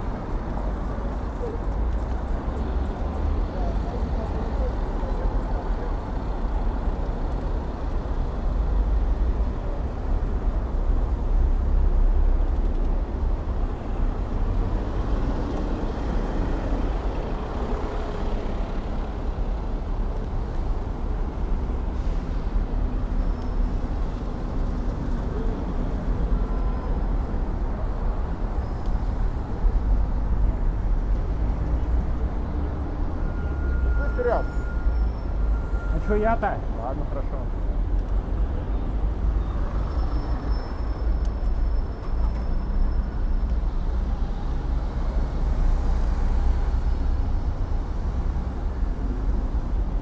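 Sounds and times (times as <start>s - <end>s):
car and bus engines in traffic: 0.0s - 50.0s.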